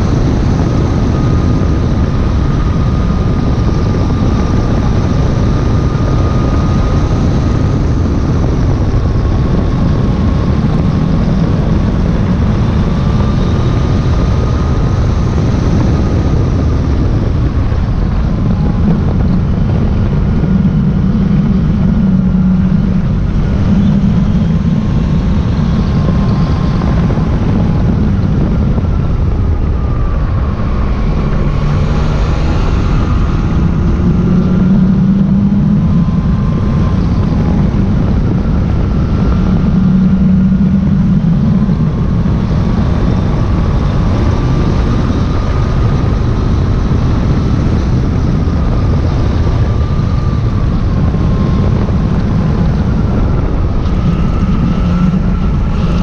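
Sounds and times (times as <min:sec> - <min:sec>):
motorcycle engine drone: 0:00.0 - 0:56.0
thin wavering whine: 0:00.0 - 0:56.0
wind rushing over microphone: 0:00.0 - 0:56.0.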